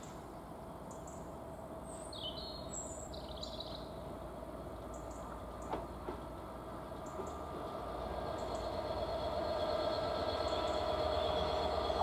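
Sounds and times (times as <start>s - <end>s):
diesel locomotive engine droning: 0.0s - 12.0s.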